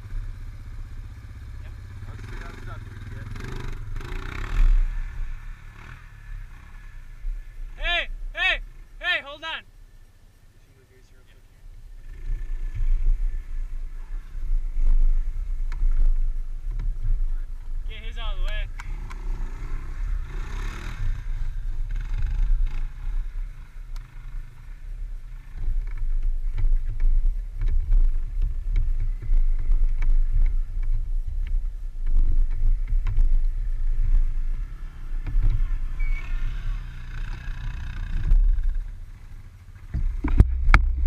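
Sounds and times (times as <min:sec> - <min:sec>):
quad bike engines running: 0:00.0 - 0:09.4, 0:11.2 - 0:41.0.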